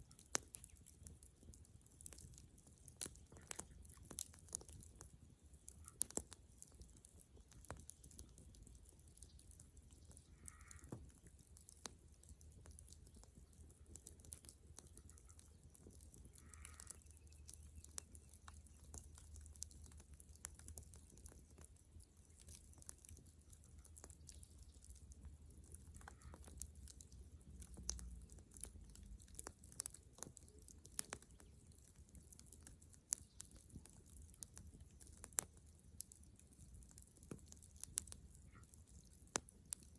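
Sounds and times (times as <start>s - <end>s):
bonfire crackling: 0.0s - 39.9s
fire popping and snapping: 0.0s - 39.9s.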